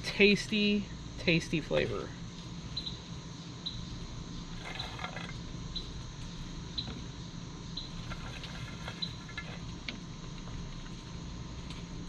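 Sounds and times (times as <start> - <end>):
high insect chirp: 0.0 - 12.0
steady low hum: 0.0 - 12.0.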